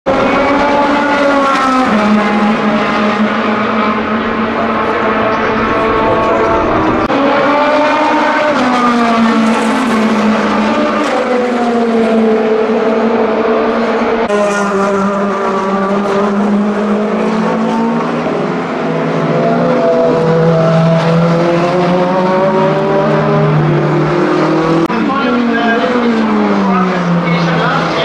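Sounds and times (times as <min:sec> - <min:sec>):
race car engine at speed: 0:00.1 - 0:28.0.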